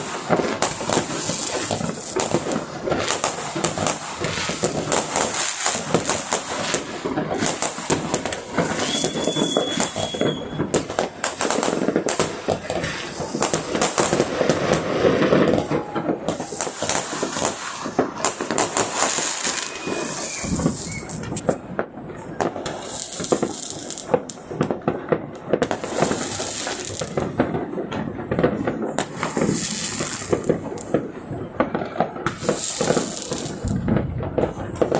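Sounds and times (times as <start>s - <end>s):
firecrackers crackling: 0.0s - 34.9s
fireworks cracks and bangs: 0.0s - 34.9s.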